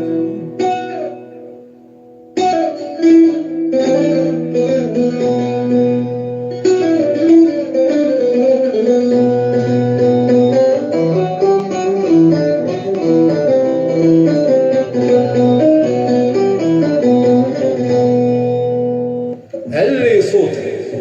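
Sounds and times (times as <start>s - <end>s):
instrumental song introduction: 0.0s - 21.0s.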